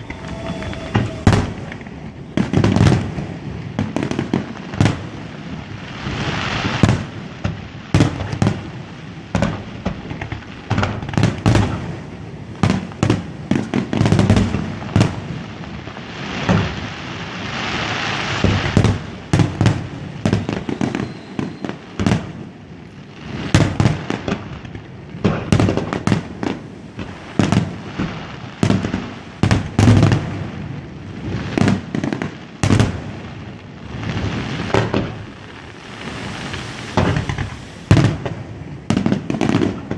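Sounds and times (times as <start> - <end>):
fireworks booming: 0.0 - 15.6, 18.3 - 22.6, 23.2 - 39.9
fireworks crackle: 0.0 - 39.9.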